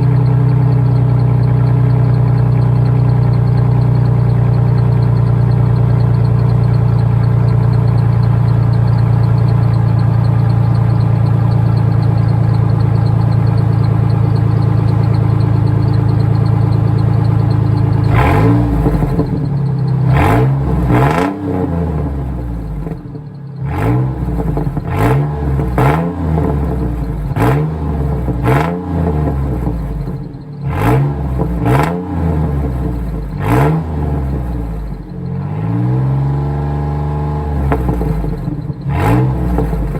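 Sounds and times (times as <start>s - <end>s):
loud engine idling and revving: 0.0s - 39.9s.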